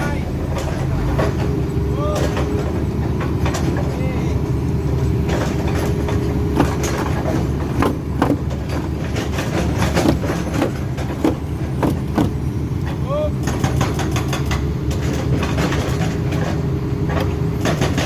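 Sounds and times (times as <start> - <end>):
diesel engine running: 0.0 - 18.0
metallic knocks: 0.0 - 18.0.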